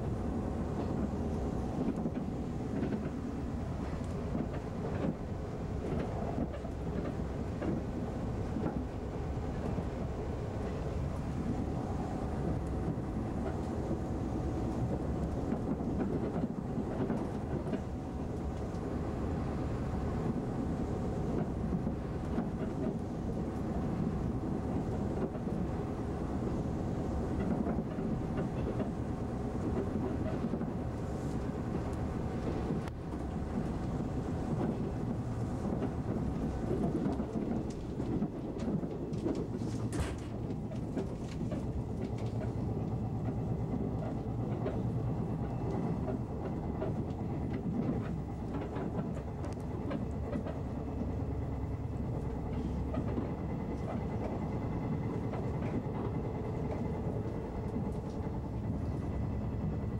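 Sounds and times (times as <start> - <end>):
train wheels rumbling on rails: 0.0 - 59.9
clicking over rail joints: 0.7 - 9.9, 12.4 - 18.9, 20.2 - 59.9.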